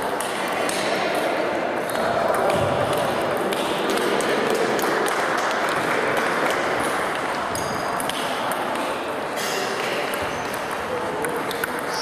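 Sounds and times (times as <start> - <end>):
sports hall background hum: 0.0 - 12.0.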